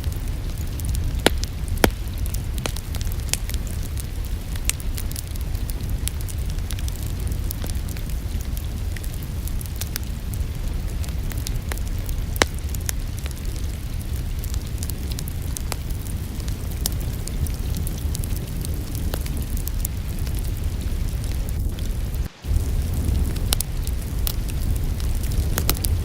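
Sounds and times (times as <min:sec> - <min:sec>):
rain: 0:00.0 - 0:26.0
wood fire crackling: 0:00.0 - 0:26.0.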